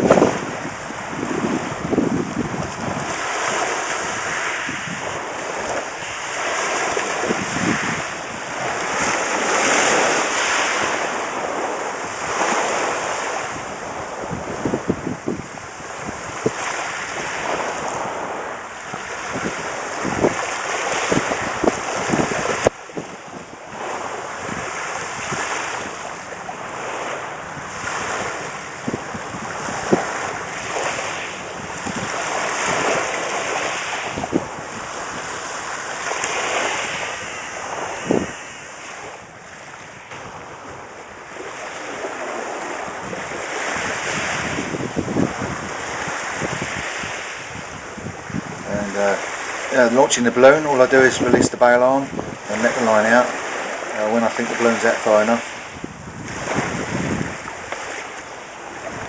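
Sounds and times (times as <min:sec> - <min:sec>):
sea waves washing on shore: 0:00.0 - 0:59.0
wind buffeting microphone: 0:00.0 - 0:59.0.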